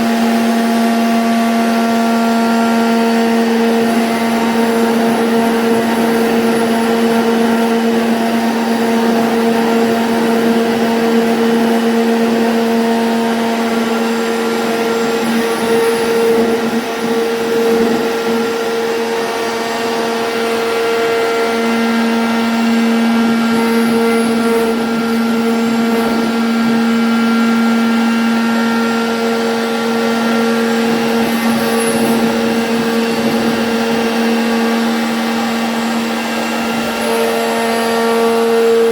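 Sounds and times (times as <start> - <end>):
router cutting wood: 0.0 - 38.9
router spindle motor whine: 0.0 - 38.9.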